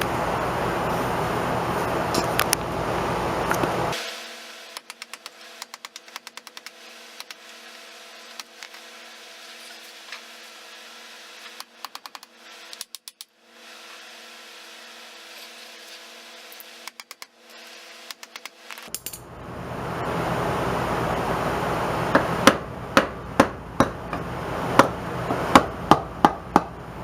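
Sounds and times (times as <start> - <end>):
steady hum: 0.0 - 12.8, 17.8 - 27.0.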